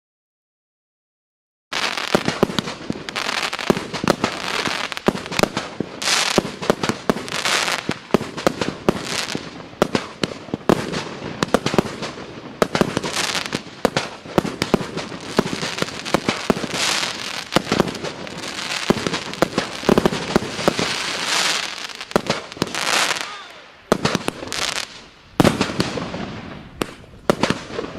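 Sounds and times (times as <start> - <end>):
fireworks launching and bursting: 1.7 - 27.9.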